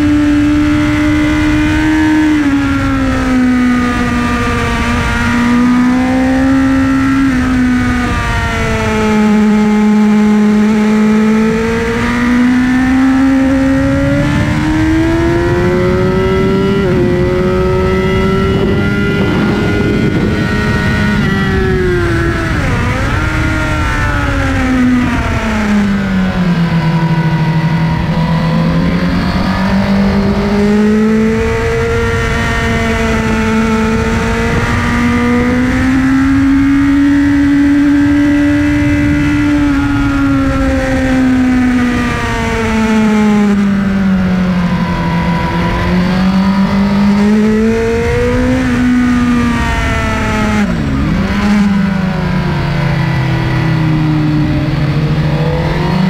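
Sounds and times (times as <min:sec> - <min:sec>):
motorcycle engine at high revs: 0:00.0 - 0:56.0
wind and road noise: 0:00.0 - 0:56.0.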